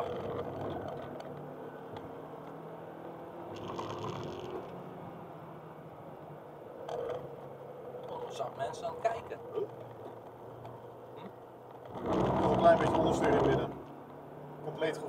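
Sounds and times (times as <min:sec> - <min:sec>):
car engine running: 0:00.0 - 0:15.0
road and tyre noise: 0:00.0 - 0:15.0.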